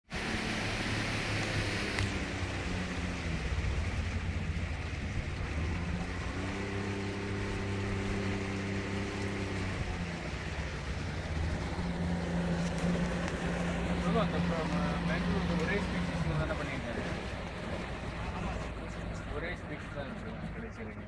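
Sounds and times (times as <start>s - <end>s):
motorboat engine drone: 0.0s - 21.0s
water rushing: 0.0s - 21.0s
wind: 0.0s - 21.0s.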